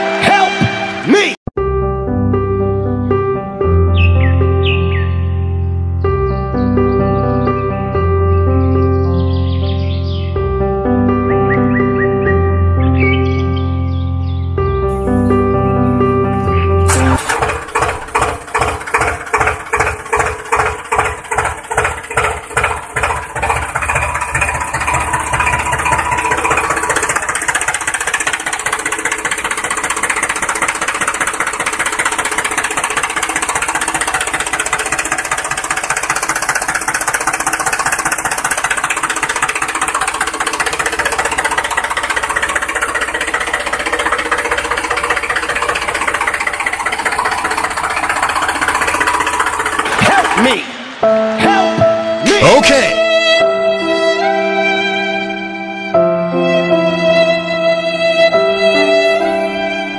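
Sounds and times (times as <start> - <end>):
tractor engine running: 2.2 - 54.3.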